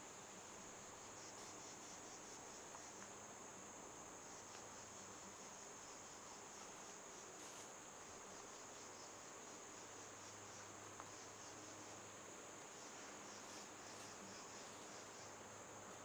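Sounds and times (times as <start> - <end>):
insect chorus trilling: 0.0 - 16.0
woodland background hiss: 0.0 - 16.0.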